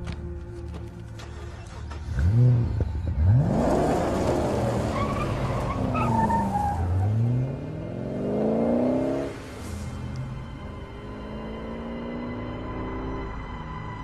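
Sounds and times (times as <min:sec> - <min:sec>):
car engine revving: 0:01.2 - 0:13.8.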